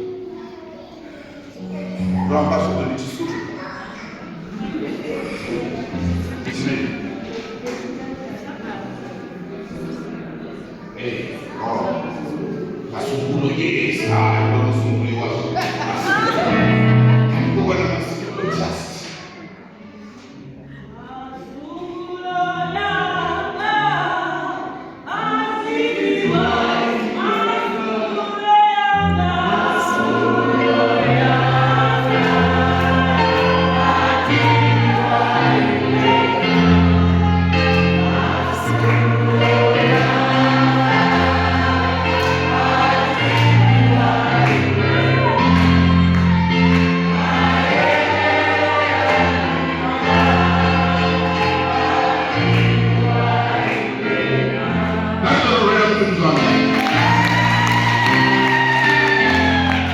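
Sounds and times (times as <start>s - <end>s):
choir singing gospel: 1.0s - 59.9s.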